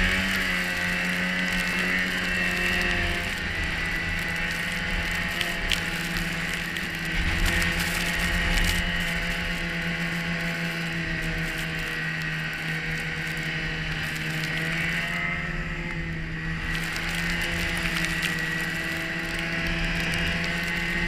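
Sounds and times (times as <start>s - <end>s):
snowmobile engine running: 0.0s - 21.0s
whir of drive and track: 0.0s - 21.0s.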